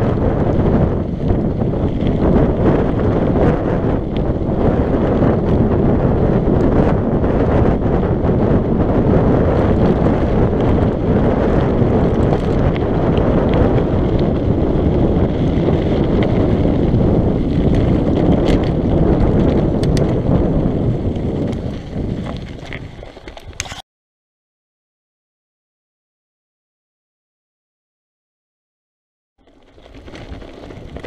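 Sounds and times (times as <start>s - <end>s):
bike tyres rumbling on gravel: 0.0s - 23.8s, 29.4s - 31.0s
wind buffeting microphone: 0.0s - 23.8s, 29.4s - 31.0s.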